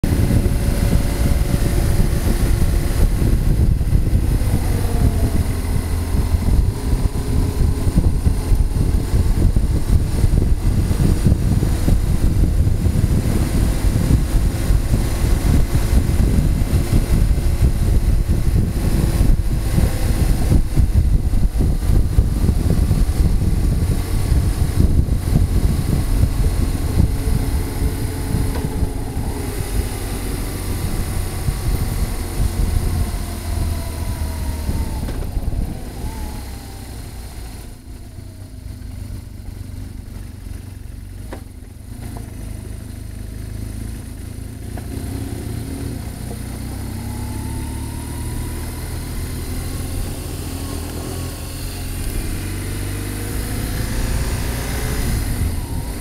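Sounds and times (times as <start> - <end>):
wind buffeting microphone: 0.0 - 41.0, 44.6 - 56.0
motorcycle engine: 0.0 - 56.0.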